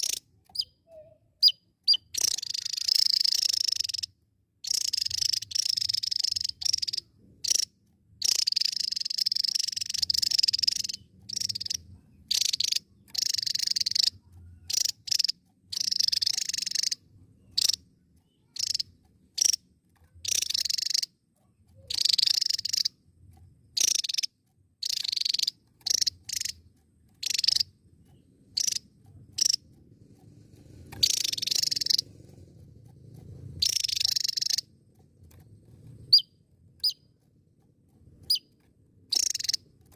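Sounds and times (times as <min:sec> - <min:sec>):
bird singing high-pitched song: 0:00.0 - 0:29.8, 0:30.9 - 0:32.1, 0:33.4 - 0:37.2, 0:38.2 - 0:39.8.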